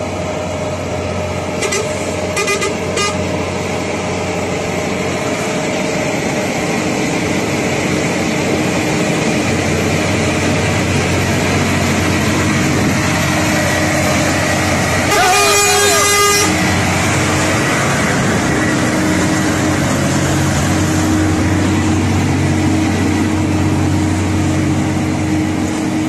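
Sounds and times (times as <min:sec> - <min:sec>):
truck diesel engine running: 0:00.0 - 0:26.0
tyre and road noise: 0:00.0 - 0:26.0.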